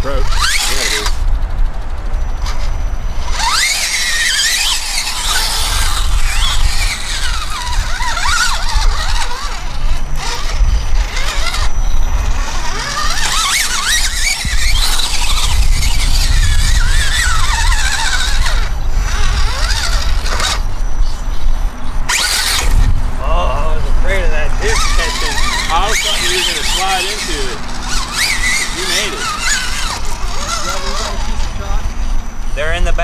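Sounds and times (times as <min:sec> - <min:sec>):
electric motor and gears whining: 0:00.0 - 0:33.0
steady low rumble: 0:00.0 - 0:33.0.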